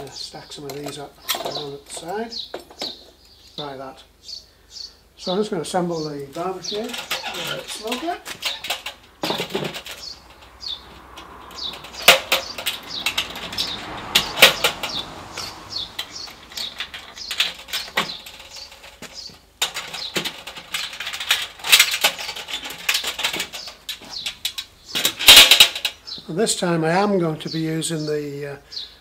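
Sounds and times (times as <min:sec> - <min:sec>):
metal barrel sections clanking: 0:00.0 - 0:03.2, 0:05.7 - 0:26.0
birds chirping: 0:00.0 - 0:29.0.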